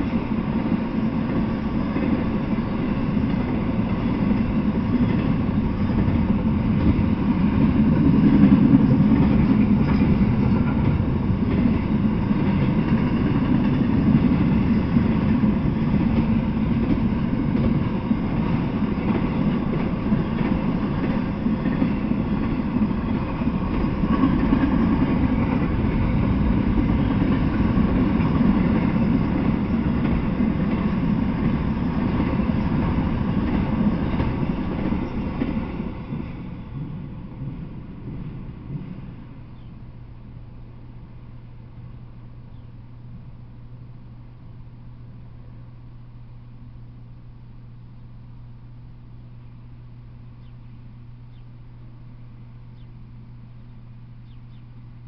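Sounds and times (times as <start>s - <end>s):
freight train rolling past: 0.0s - 55.0s
steel wheels rumbling on rail: 0.0s - 55.0s.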